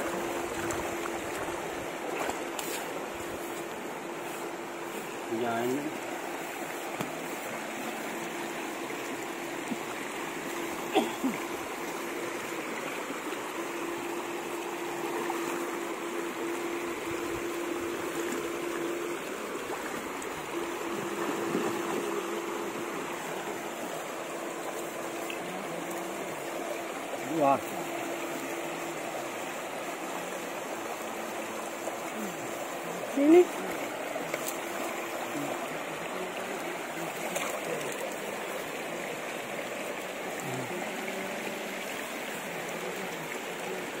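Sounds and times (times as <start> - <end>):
river water over rocks: 0.0 - 44.0.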